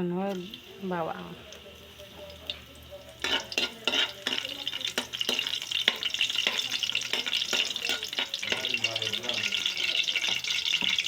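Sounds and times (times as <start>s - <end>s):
garlic sizzling in oil: 0.0s - 11.0s
spatula scraping pan: 1.5s - 11.0s.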